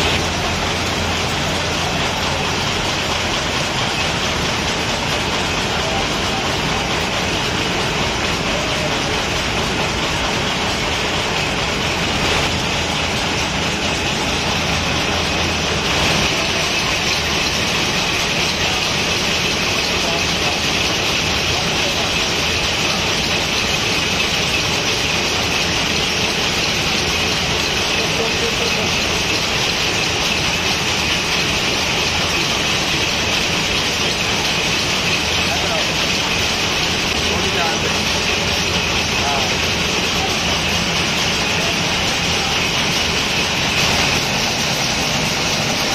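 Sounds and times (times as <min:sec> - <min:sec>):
workshop machinery running: 0:00.0 - 0:45.9.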